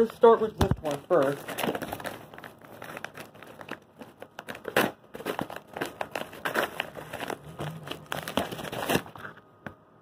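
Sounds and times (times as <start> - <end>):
crinkling handling noise: 0.0 - 9.8.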